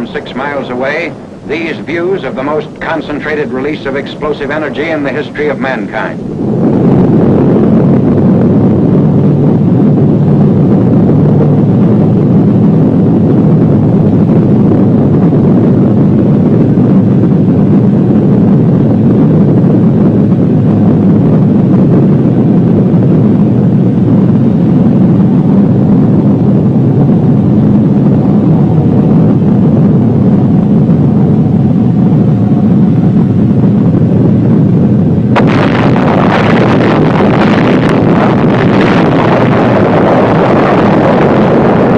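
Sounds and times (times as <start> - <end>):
hissing rush: 0.0 - 13.1, 15.4 - 41.9
explosion rumbling roar: 0.0 - 41.9.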